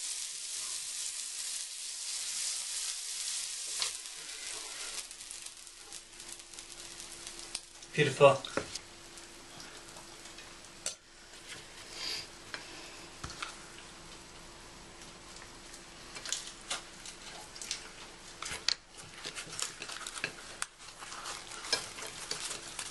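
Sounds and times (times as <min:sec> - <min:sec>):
sizzling on a griddle pan: 0:00.0 - 0:13.8, 0:15.0 - 0:22.9.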